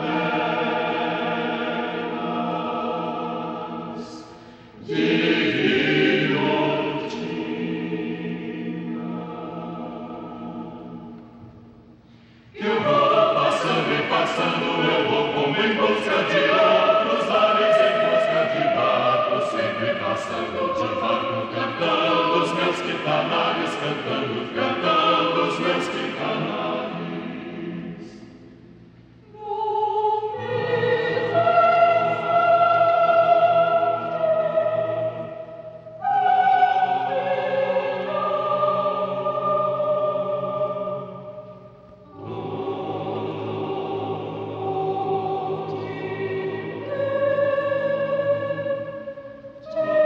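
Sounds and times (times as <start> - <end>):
choir singing: 0.0 - 11.6, 12.5 - 28.5, 29.3 - 50.0.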